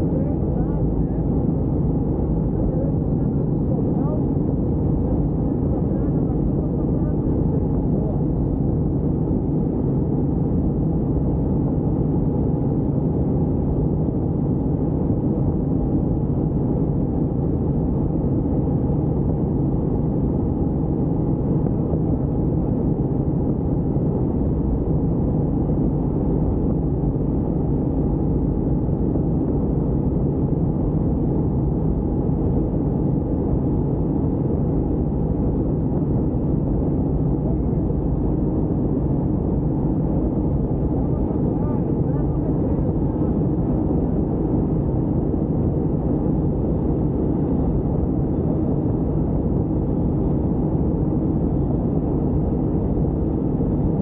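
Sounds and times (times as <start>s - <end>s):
helicopter drone: 0.0s - 54.0s.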